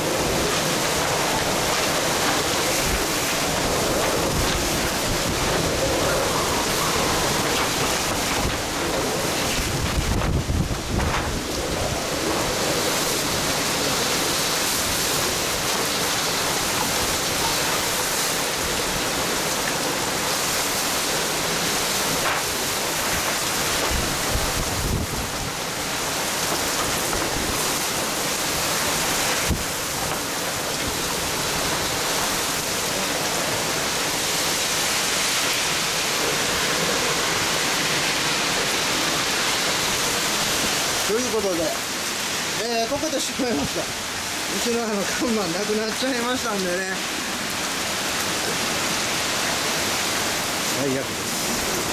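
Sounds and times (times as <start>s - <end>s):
strong wind and driving rain: 0.0s - 51.9s.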